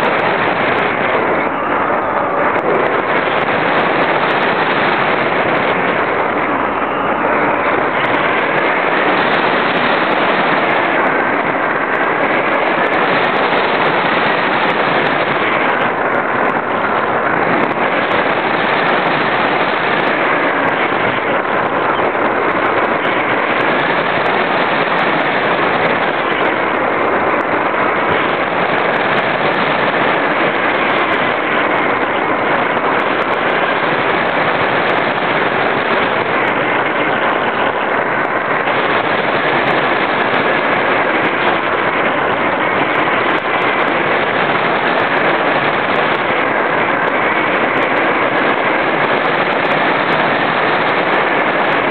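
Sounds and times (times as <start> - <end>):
air rushing over microphone: 0.0 - 51.9.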